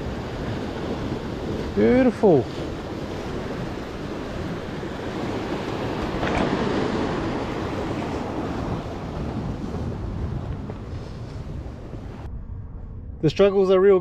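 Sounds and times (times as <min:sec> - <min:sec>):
surf washing against rocks: 0:00.0 - 0:12.1
wind on microphone: 0:00.0 - 0:14.0.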